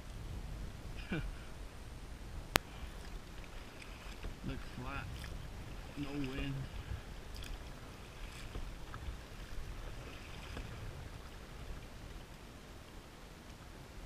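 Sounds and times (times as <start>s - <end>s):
faint water splashes: 0.0s - 14.0s
low uneven rumble: 0.0s - 14.0s.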